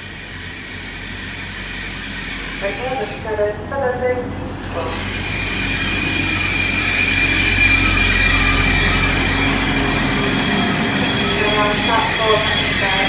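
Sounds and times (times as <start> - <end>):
high brake squeal: 0.0 - 3.3, 4.8 - 13.0
train engine and wheels rumbling: 0.0 - 13.0.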